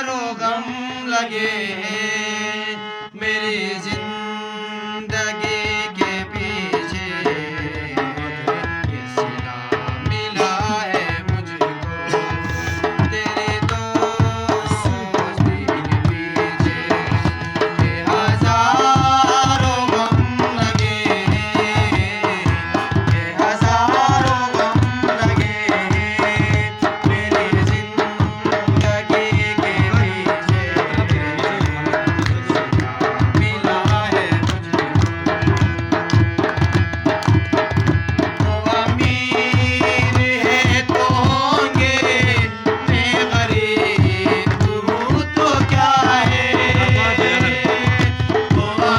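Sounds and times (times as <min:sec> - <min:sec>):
tabla rhythm: 0:00.0 - 0:48.9.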